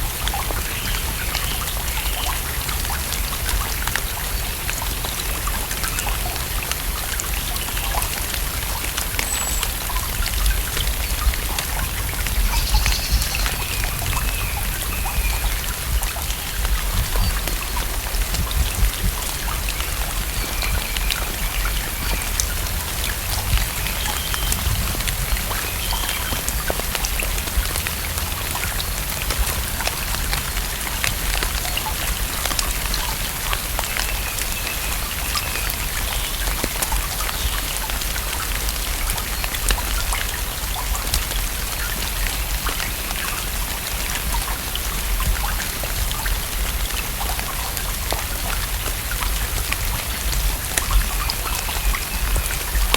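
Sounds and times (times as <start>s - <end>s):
rain falling on a lake: 0.0s - 52.9s.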